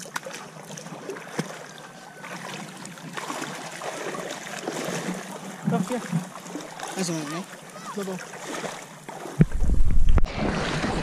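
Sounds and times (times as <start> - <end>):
water splashing around legs: 0.0 - 11.0.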